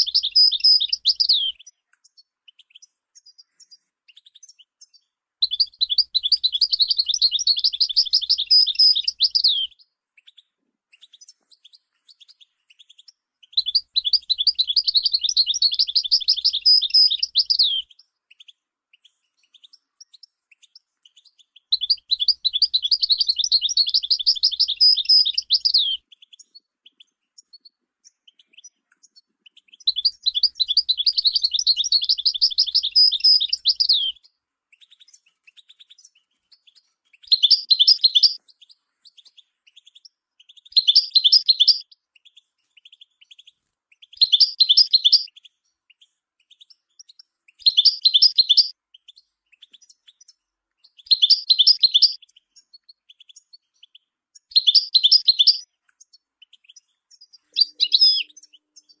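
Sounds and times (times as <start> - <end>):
finch twittering song: 0.0 - 59.0.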